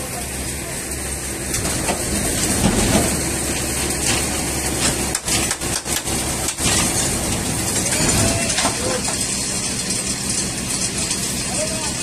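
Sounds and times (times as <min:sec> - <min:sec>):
heavy truck engine rumbling: 0:00.0 - 0:12.0.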